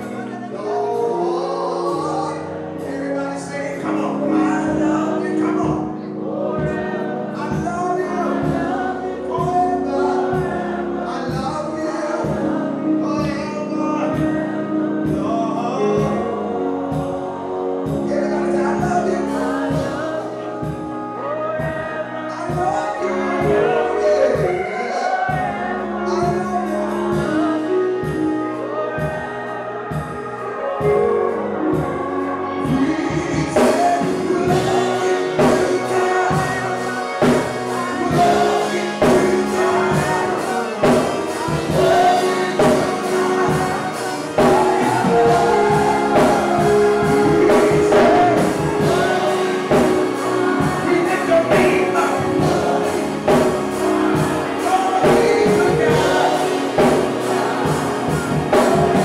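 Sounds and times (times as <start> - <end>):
band playing: 0.0 - 59.0
gospel singing: 0.0 - 59.0.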